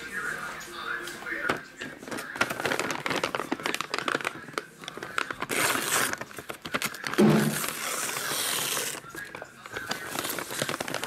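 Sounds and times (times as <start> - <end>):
paper wrapping crinkling: 0.0 - 11.0
paper ripping: 1.8 - 11.0.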